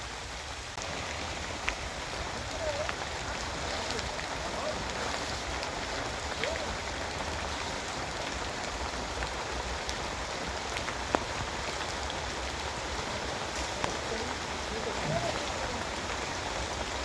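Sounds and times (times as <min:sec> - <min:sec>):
steady rain hiss: 0:00.0 - 0:17.0
raindrop ticks: 0:00.7 - 0:17.0.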